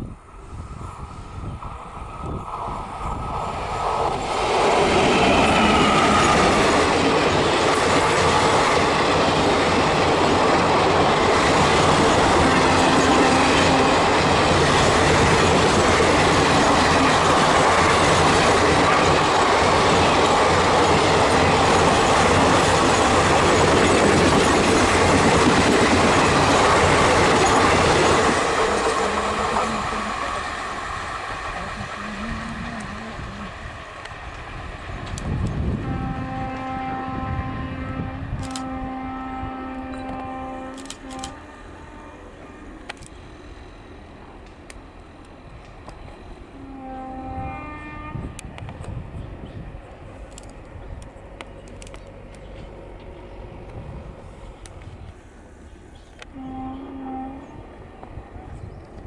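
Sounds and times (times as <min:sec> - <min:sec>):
train coaches rolling by: 0:00.0 - 0:59.0.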